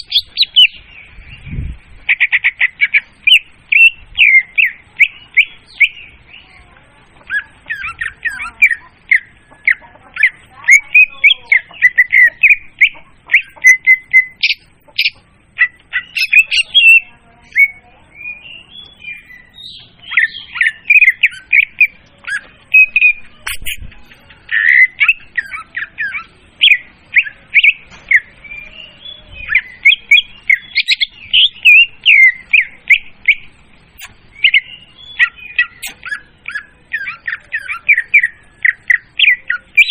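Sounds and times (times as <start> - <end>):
bird chirping and whistling: 0.0 - 6.5, 7.2 - 39.9.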